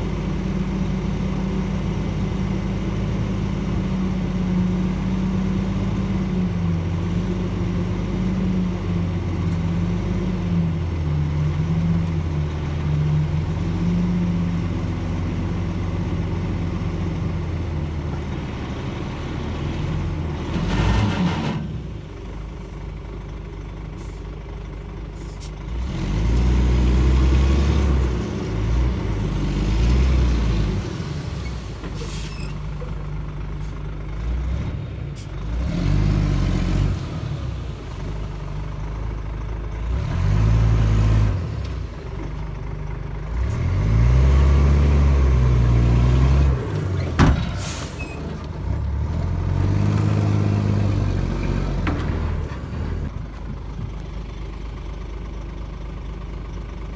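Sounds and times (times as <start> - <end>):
bulldozer diesel engine: 0.0 - 56.9.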